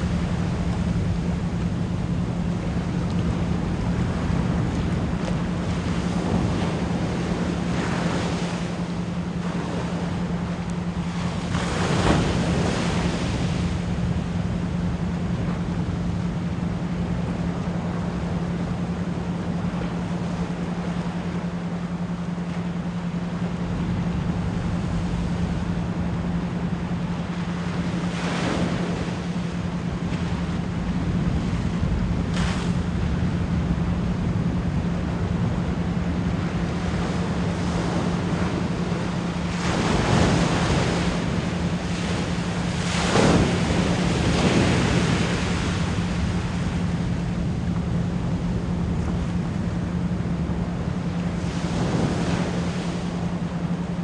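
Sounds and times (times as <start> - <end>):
ocean waves washing in: 0.0 - 54.0
steady low pure tone: 0.0 - 54.0.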